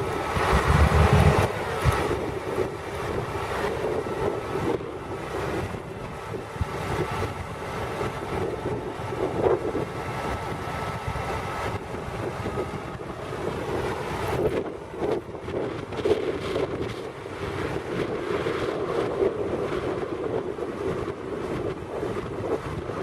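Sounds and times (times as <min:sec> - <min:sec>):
tractor diesel engine running: 0:00.0 - 0:23.0
wind buffeting microphone: 0:00.0 - 0:23.0.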